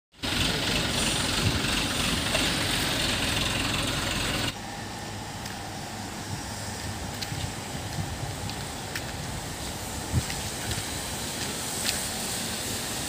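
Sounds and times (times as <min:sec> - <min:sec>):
crane diesel engine running: 0:00.1 - 0:13.0.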